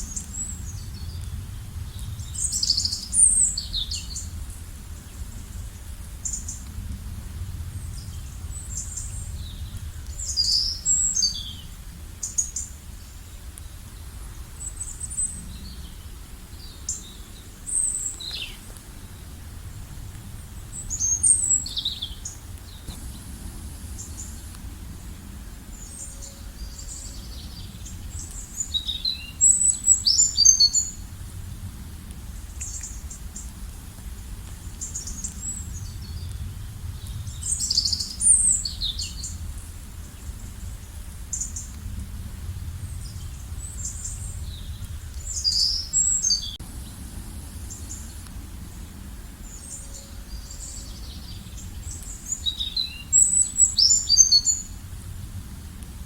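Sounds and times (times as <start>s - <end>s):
songbirds chirping and trilling: 0.0s - 33.6s, 34.4s - 55.8s
low background rumble: 0.0s - 52.5s.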